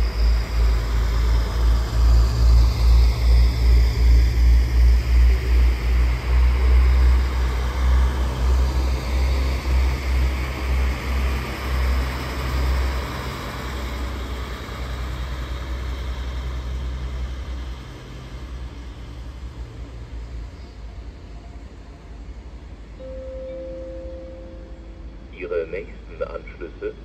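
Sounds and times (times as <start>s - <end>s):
train engine drone: 0.0s - 27.0s.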